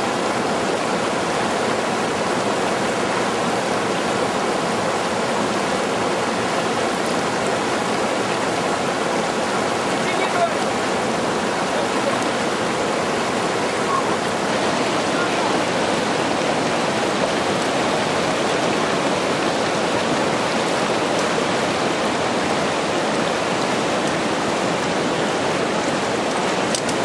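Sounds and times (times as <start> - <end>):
river rushing over stones: 0.0 - 27.0.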